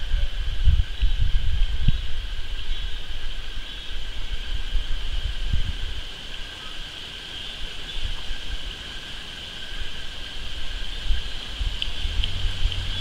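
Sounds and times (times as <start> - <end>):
low wind rumble on microphone: 0.0 - 6.9, 7.6 - 13.0.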